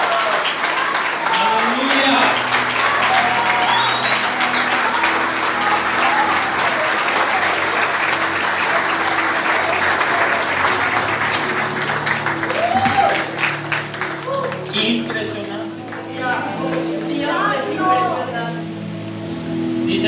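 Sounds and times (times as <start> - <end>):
congregation applauding: 0.0 - 18.4
soft background music: 1.1 - 20.0.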